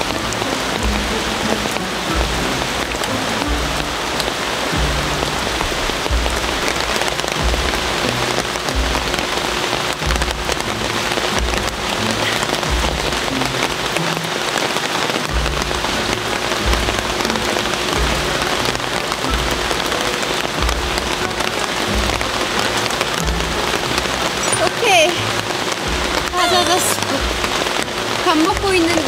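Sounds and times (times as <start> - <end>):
music with slow low beat: 0.0 - 29.0
steady rain falling: 0.0 - 29.0.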